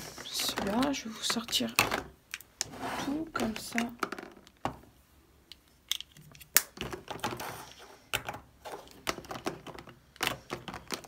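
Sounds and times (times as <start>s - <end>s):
plastic cases clacking: 0.1s - 2.4s, 3.1s - 4.8s, 5.9s - 11.0s.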